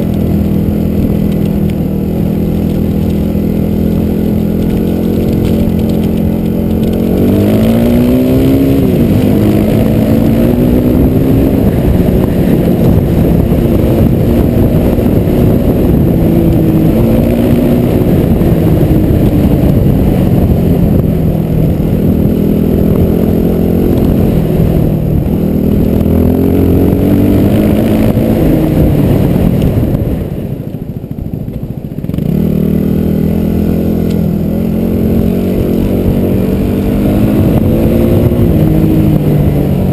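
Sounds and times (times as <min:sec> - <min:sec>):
car engine revving: 0:00.0 - 0:30.1, 0:32.0 - 0:39.9.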